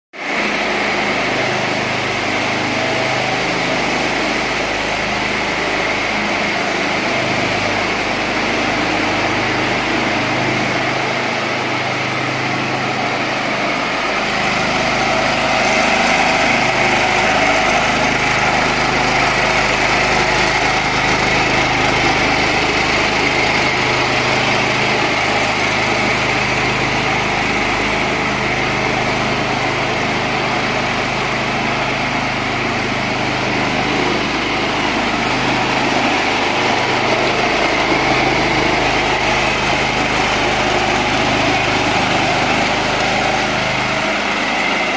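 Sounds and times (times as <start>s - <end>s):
small petrol engine running: 0.2s - 44.9s.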